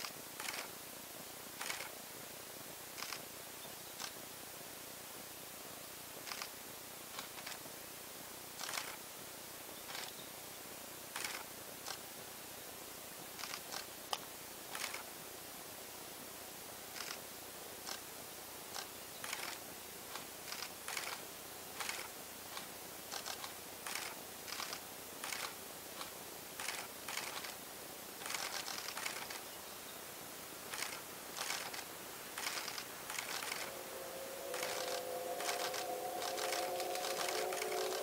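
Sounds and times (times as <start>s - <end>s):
faint steady hiss: 0.0s - 38.0s.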